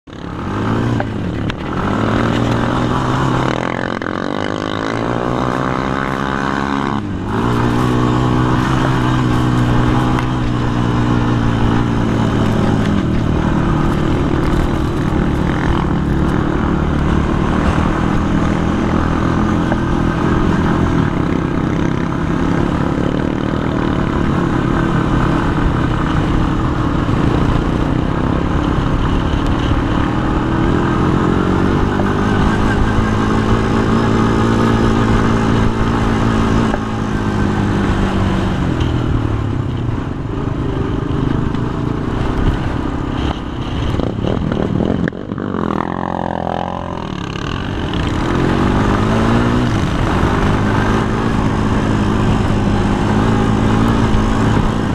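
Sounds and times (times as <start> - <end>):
quad engine revving: 0.1 - 39.5, 40.1 - 54.9
wind on microphone: 0.4 - 54.9.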